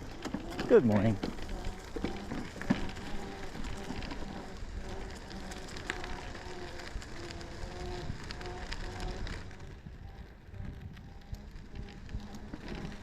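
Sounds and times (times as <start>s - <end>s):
bike tyres rolling on path: 0.0s - 13.0s.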